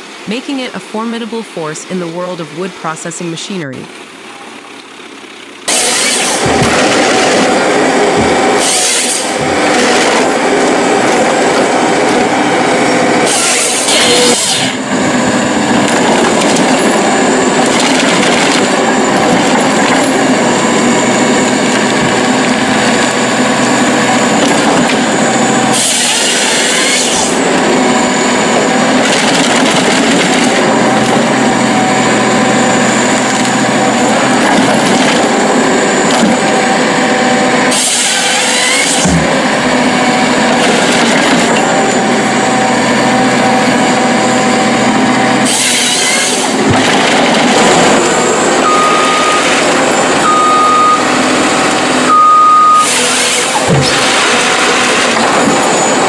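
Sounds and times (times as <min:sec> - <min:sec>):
machine engine and hydraulics: 0:01.0 - 0:56.0
chainsaw cutting: 0:05.7 - 0:52.1.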